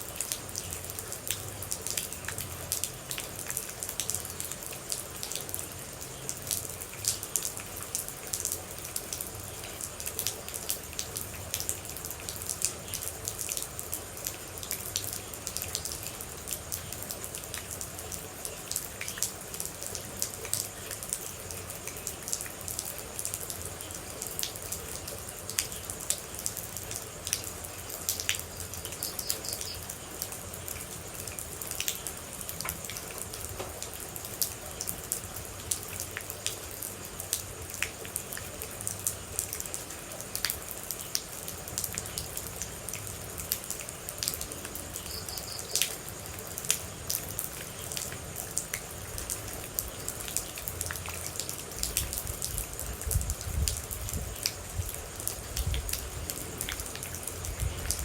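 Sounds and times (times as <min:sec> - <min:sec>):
rain hiss: 0:00.0 - 0:58.0
water drips: 0:00.0 - 0:58.0.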